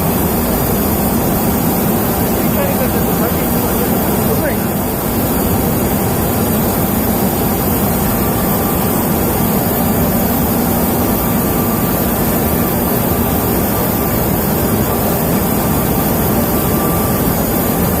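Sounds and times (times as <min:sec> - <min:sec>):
loud industrial roar: 0:00.0 - 0:18.0.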